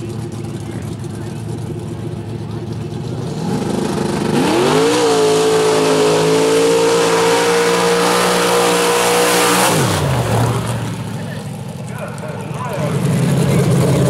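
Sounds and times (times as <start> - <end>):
vehicle engine revving high: 0.0 - 14.0.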